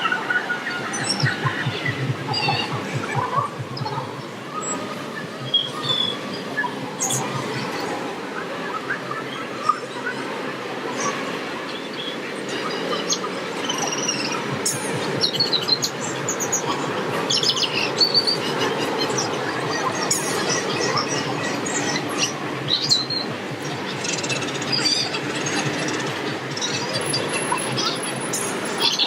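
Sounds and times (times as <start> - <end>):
small birds chirping: 0.0 - 7.6, 11.7 - 29.0.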